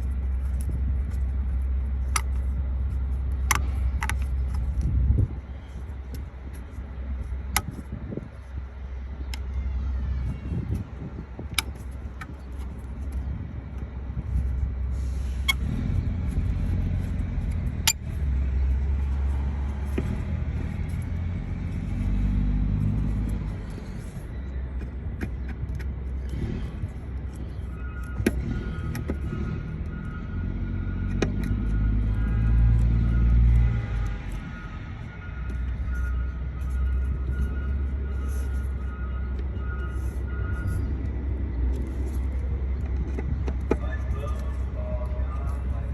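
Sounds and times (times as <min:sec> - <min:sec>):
low vehicle rumble: 0:00.0 - 0:45.9.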